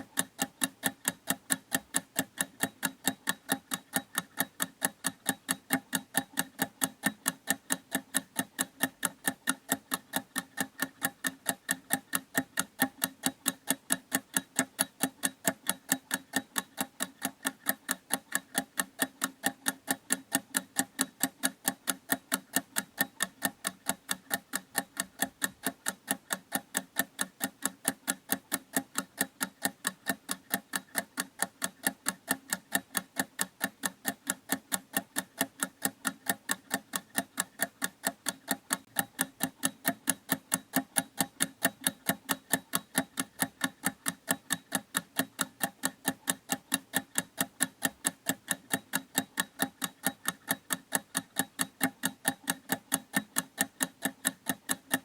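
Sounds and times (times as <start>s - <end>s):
clock ticking fast: 0.0s - 55.0s.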